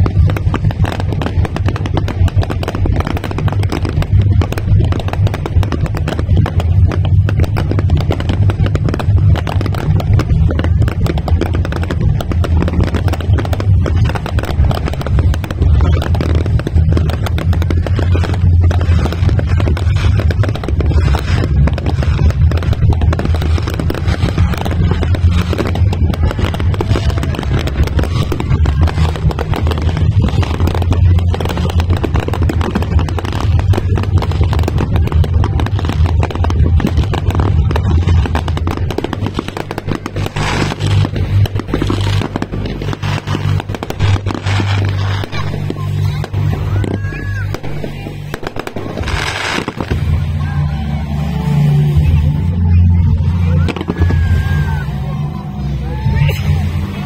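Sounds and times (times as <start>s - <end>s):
deep rumble: 0.0s - 57.0s
fireworks bursting: 0.0s - 57.0s.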